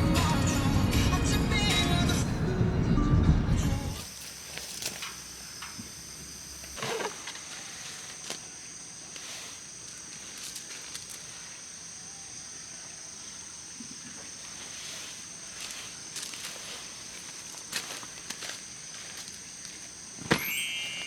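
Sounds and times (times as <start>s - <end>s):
insects chirring: 4.0s - 21.0s.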